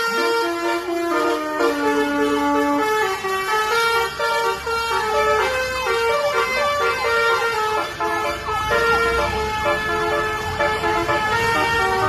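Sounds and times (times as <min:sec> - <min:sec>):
musical air horn playing tune: 0:00.0 - 0:12.0.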